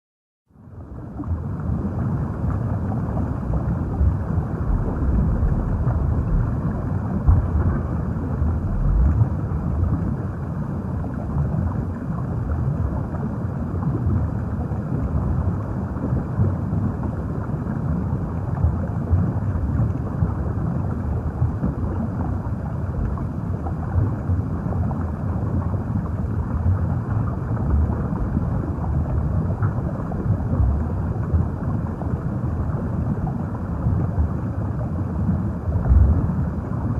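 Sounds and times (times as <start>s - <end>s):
underwater rumbling water: 0.6s - 36.9s.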